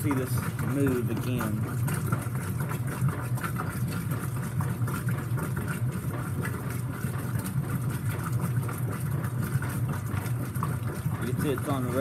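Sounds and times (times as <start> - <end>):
washing machine agitating hum: 0.0 - 12.0.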